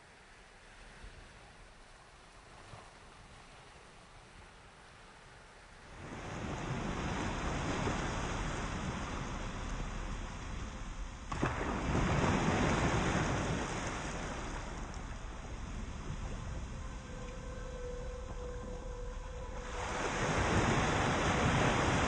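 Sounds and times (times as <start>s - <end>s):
sea waves washing up a beach: 0.0s - 22.0s.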